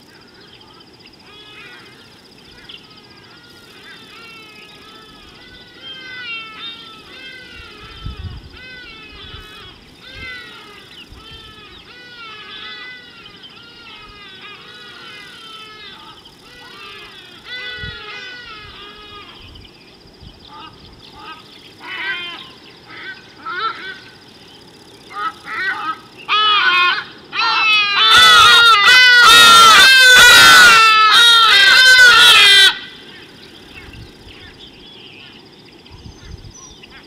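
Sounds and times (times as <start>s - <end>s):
birds chattering: 0.0s - 37.0s.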